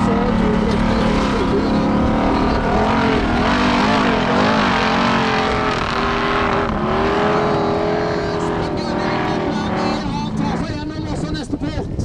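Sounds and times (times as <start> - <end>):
car engine revving under load: 0.0 - 11.1.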